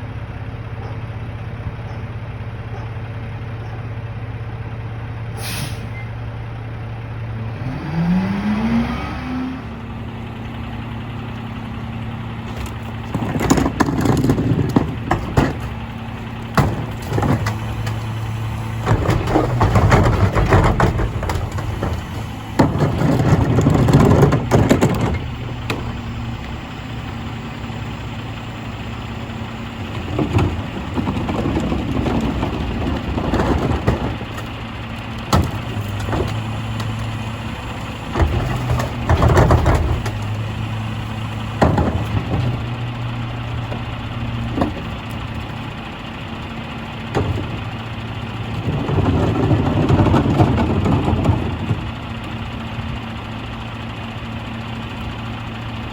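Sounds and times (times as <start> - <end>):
garbage truck idling: 0.0 - 55.9.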